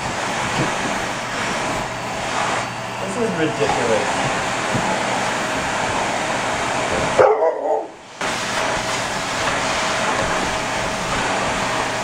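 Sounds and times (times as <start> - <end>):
vacuum cleaner suction: 0.0 - 12.0.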